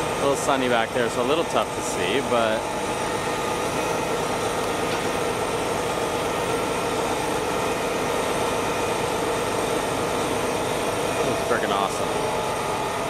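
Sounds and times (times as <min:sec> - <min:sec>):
truck engine running under load: 0:00.0 - 0:13.0.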